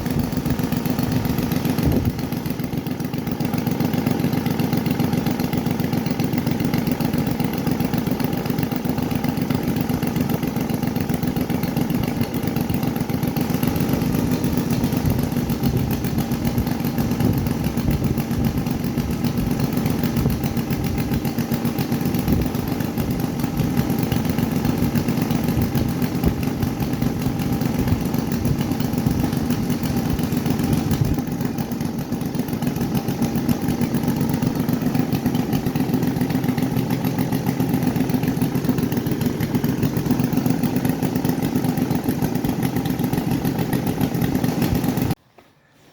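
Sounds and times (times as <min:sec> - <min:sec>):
model airplane engine buzzing: 0:00.0 - 0:45.2.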